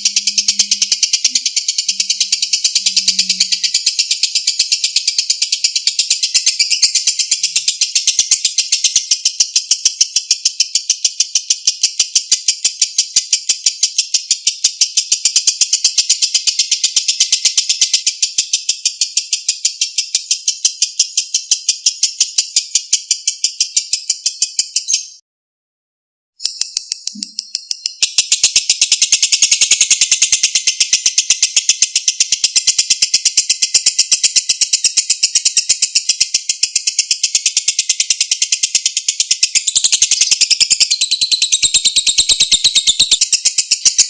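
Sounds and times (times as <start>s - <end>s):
lovebird high-pitched chatter: 0.0s - 25.2s, 26.4s - 44.0s.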